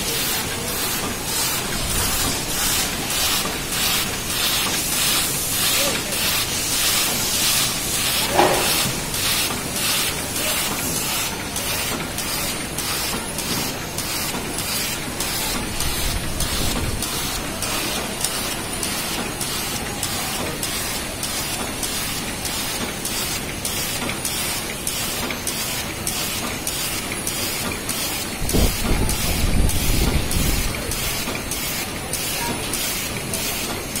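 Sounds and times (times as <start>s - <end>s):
packing machine running: 0.0s - 34.0s.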